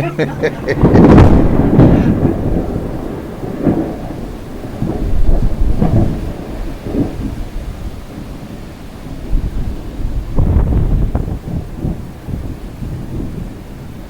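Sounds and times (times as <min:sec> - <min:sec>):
rain falling: 0:00.0 - 0:14.0
thunder rumbling: 0:00.0 - 0:14.0.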